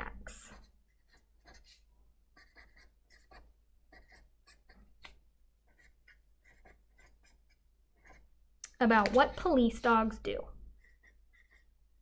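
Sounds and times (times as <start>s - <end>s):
marker writing on paper: 0.5s - 8.3s, 8.9s - 10.0s, 10.7s - 11.8s.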